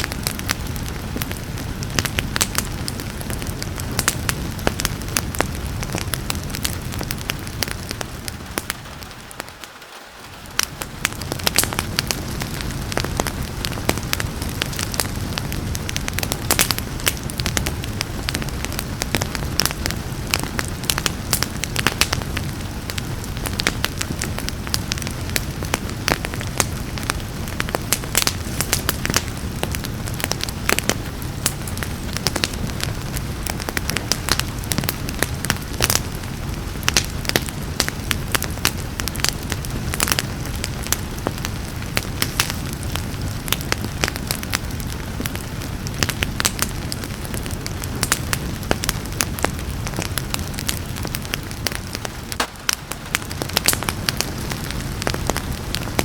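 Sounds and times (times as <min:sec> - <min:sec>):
soft rain hiss: 0:00.0 - 0:56.0
wood fire crackling and popping: 0:00.0 - 0:56.0.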